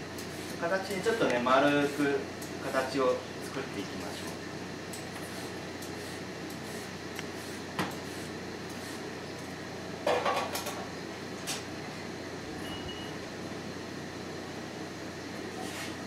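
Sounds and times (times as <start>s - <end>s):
room hum: 0.0s - 16.0s.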